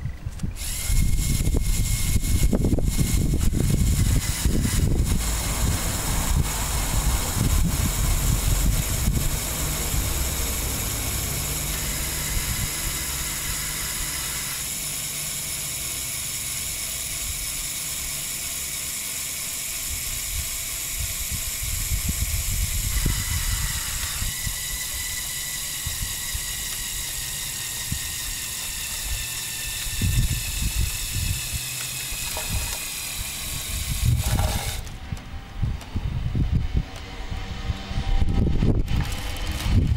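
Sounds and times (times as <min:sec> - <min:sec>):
wind rumbling on microphone: 0:00.0 - 0:14.2, 0:19.8 - 0:39.9
small electric motors whirring: 0:00.0 - 0:39.9.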